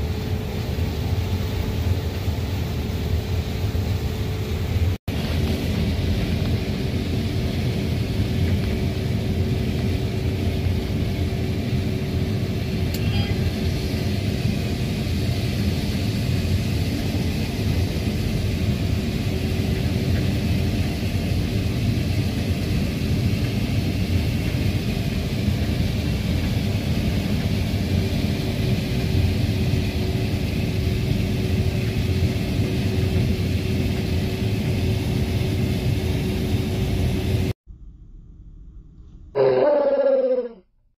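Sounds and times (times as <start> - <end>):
combine harvester rumbling: 0.0 - 37.5.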